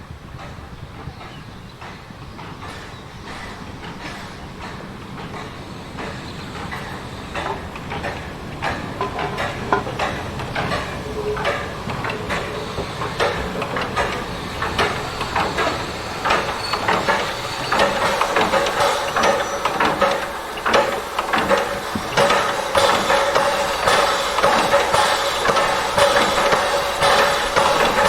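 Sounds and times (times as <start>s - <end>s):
train clanks and clicks: 0.0s - 28.0s
steady hiss: 4.2s - 28.0s.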